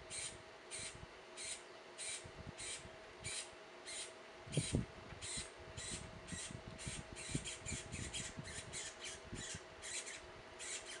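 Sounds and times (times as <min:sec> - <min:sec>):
birds chirping harshly: 0:00.0 - 0:11.0.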